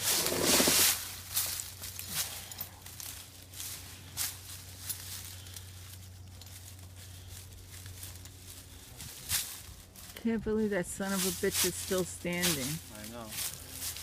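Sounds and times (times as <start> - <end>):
faint rustles: 0.0 - 14.0
low steady hum: 0.0 - 14.0.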